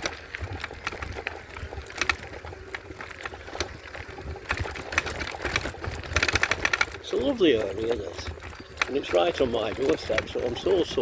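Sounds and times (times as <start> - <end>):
bicycle tyre and frame noise: 0.0 - 11.0
clicks and rattles: 0.0 - 11.0.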